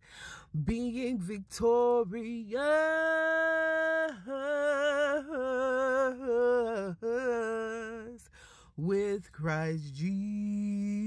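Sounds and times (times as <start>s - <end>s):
solo voice singing chant: 0.6s - 11.0s.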